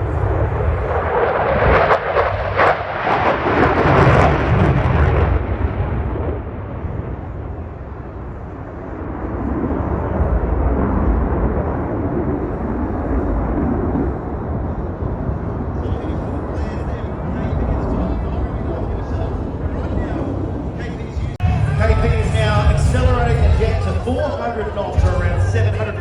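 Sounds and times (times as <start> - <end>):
jet engine roaring with crackle: 0.0 - 21.2.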